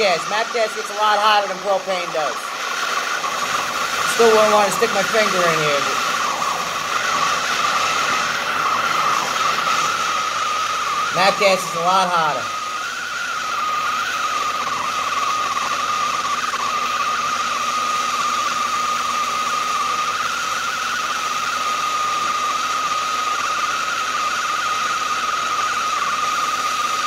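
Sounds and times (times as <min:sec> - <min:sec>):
torch flame hissing: 0:00.0 - 0:27.0.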